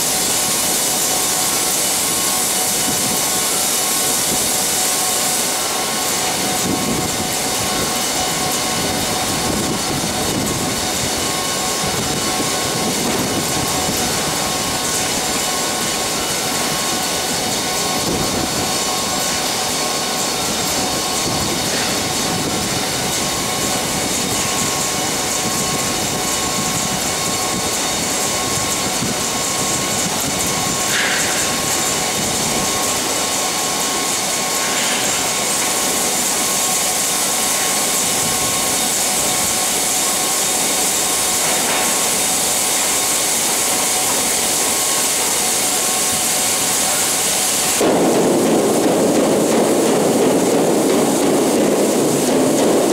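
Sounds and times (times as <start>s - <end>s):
grain pouring rushing hiss: 0.0s - 52.9s
thin steady whine: 0.0s - 52.9s.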